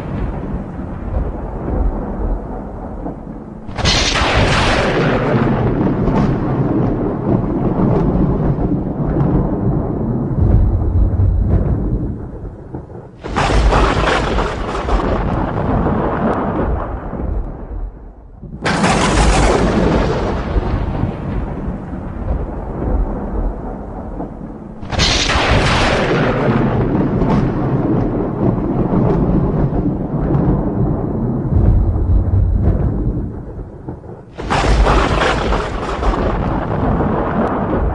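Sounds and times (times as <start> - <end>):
thunderclaps rolling into rumble: 0.0 - 37.9.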